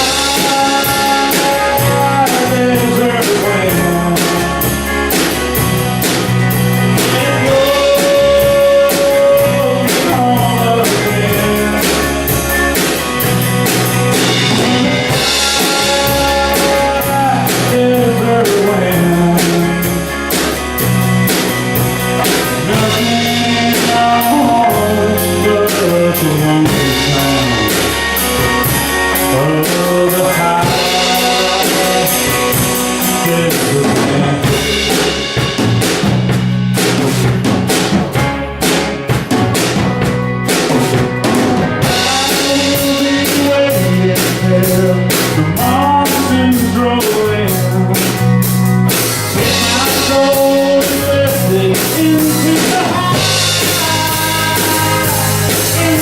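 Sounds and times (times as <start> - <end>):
bending lead guitar melody: 0.0 - 56.0
rock band playing: 0.0 - 56.0.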